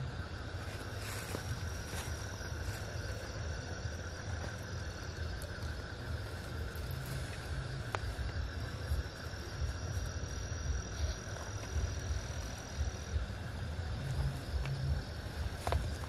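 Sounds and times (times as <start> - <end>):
low rumble: 0.0 - 16.0
night insects droning: 0.0 - 16.0.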